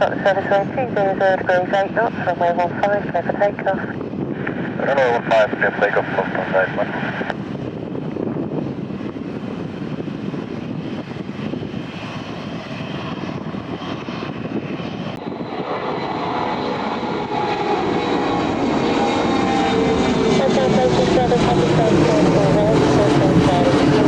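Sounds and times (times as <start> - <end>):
jet airliner engines: 0.0 - 24.0
steady engine whine: 0.0 - 24.0.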